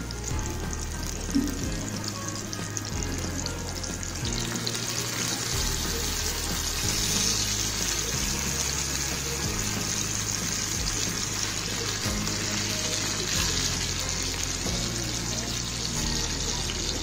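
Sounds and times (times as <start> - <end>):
background music with bass: 0.0 - 17.0
fish sizzling in hot oil: 0.0 - 17.0.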